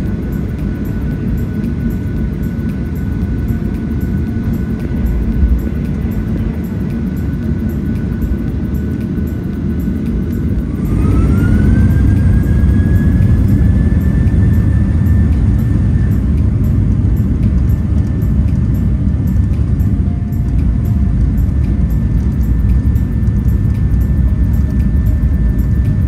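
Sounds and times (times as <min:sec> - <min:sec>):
jet engines spooling up: 0:00.0 - 0:26.0.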